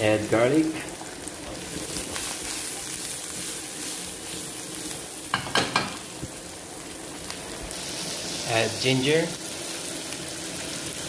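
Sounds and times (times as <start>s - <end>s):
onions sizzling in a wok: 0.0s - 11.0s.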